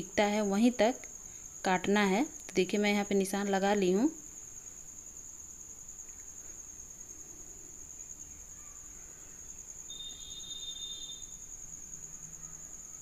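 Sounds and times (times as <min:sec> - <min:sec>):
high-pitched insect trill: 0:00.0 - 0:13.0
lower insect trill: 0:00.0 - 0:13.0.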